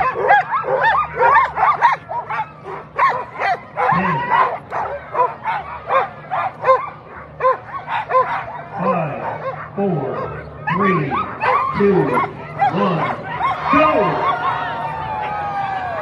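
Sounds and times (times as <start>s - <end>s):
huskies barking and yipping: 0.0s - 16.0s.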